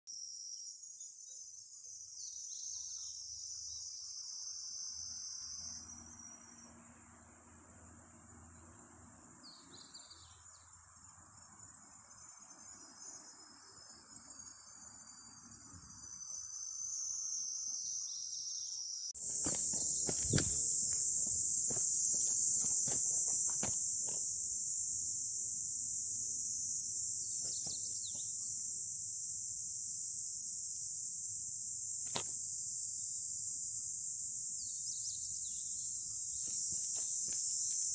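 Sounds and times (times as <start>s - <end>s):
high-pitched insect chorus: 0.1s - 37.9s.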